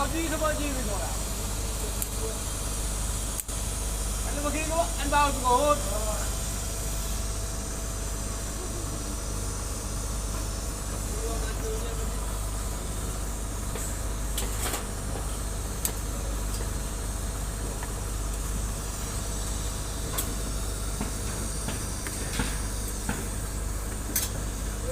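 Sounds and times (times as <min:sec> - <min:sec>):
low electrical hum: 0:00.0 - 0:24.9
welding hiss: 0:00.0 - 0:24.9.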